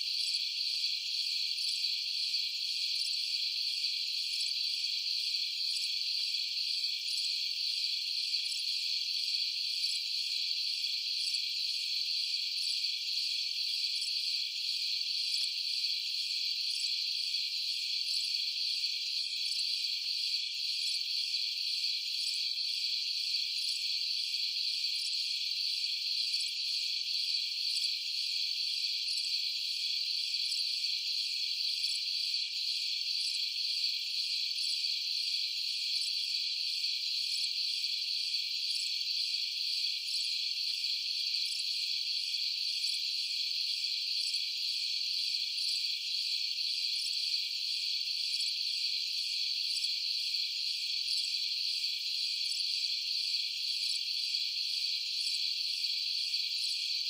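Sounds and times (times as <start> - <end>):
insects trilling: 0.0 - 57.0
pulsing insect chirp: 0.1 - 57.0.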